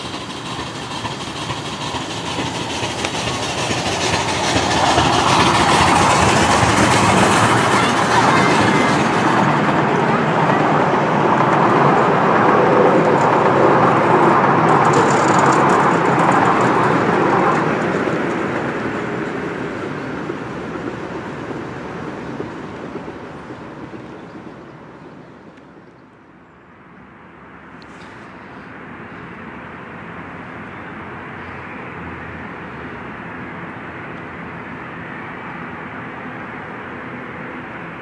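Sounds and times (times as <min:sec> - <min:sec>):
miniature train coaches rolling: 0:00.0 - 0:38.0.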